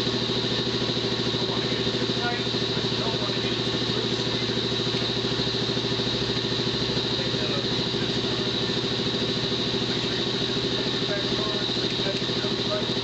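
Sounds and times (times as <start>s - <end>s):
motor running with rapid pulse: 0.0s - 13.0s.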